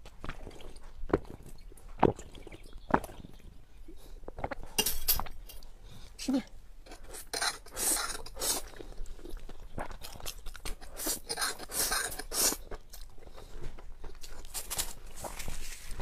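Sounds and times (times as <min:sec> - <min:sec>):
slurping and chewing noodles: 0:00.0 - 0:04.7, 0:06.9 - 0:16.0.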